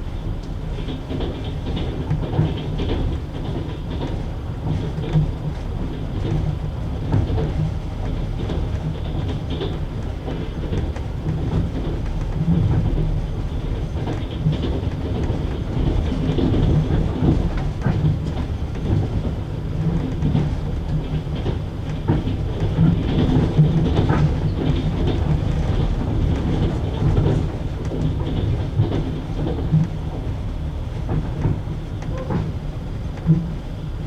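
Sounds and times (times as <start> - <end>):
train wheels clattering: 0.0 - 34.0.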